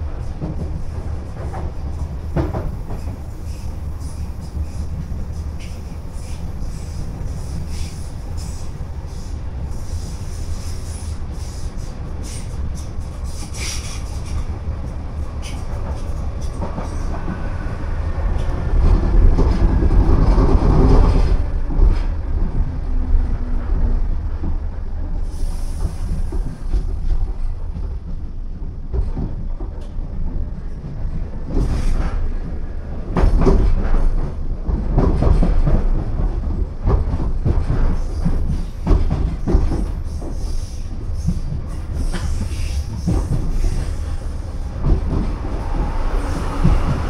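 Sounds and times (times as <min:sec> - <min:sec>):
train running rumble: 0:00.0 - 0:47.0.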